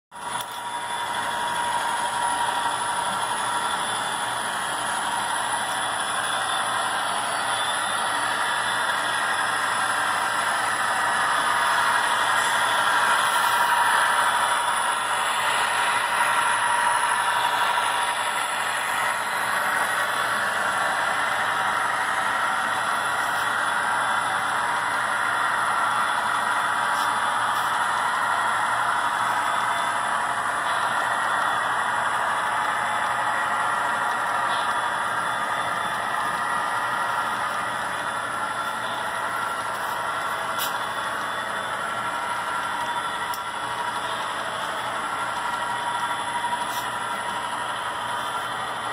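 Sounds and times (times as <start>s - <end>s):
locomotive motors humming: 0.2s - 48.9s
model train rattling on track: 0.2s - 48.9s.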